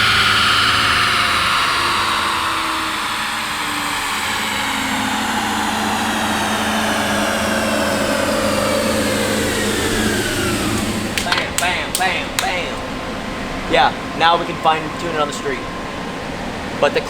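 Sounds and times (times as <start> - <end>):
car engine idling: 0.0 - 17.0
high whine falling in pitch: 0.0 - 17.0.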